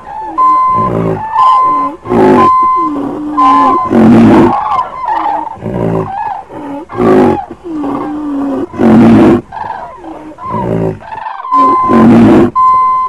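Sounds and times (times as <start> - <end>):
higher animal cries: 0.0 - 12.5
animal roars: 0.1 - 12.5.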